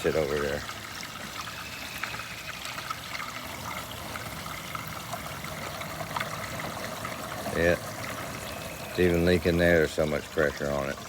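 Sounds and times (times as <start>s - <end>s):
rainwater pouring from downspout: 0.0s - 11.0s
water drips and splashes: 0.0s - 11.0s.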